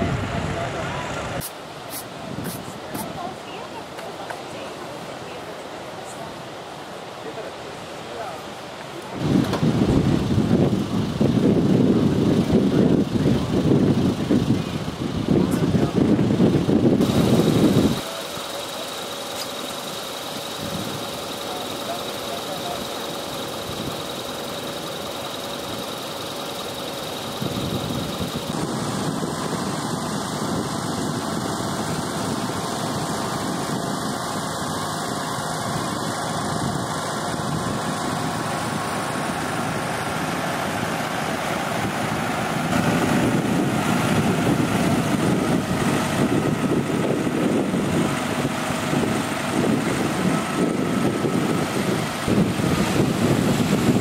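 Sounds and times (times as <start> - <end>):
tractor engine running: 7.8 - 54.0.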